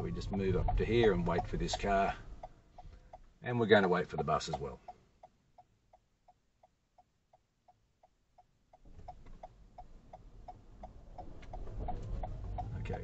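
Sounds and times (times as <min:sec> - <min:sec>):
car engine and road noise: 0:00.0 - 0:13.0
turn signal ticking: 0:00.0 - 0:13.0.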